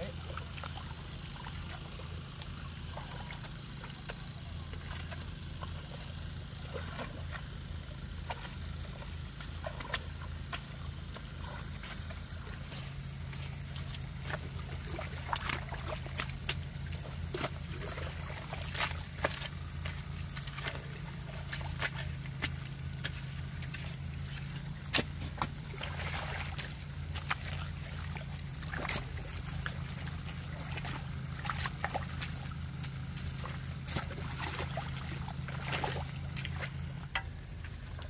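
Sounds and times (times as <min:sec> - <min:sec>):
steady low hum: 0:00.0 - 0:38.0
hoe squelching in wet mud: 0:00.3 - 0:38.0.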